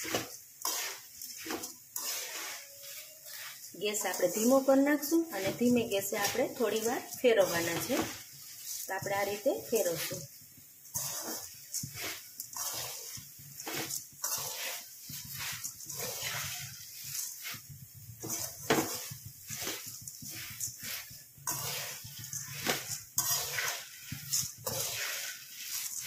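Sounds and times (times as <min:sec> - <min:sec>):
puffed rice rustling: 0:00.0 - 0:26.0
spatula scraping metal pan: 0:00.0 - 0:26.0.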